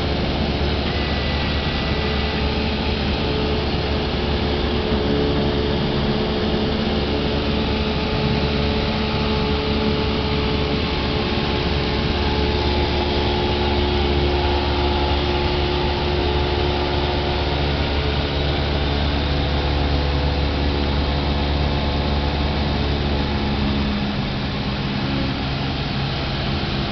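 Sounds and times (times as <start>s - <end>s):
airplane engine and propeller drone: 0.0s - 26.9s
rushing air noise: 0.0s - 26.9s.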